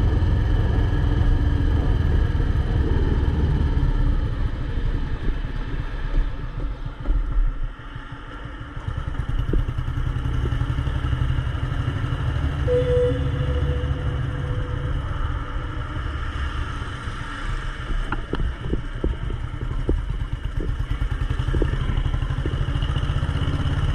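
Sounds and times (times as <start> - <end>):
motorcycle engine running: 0.0 - 16.6, 17.7 - 23.9.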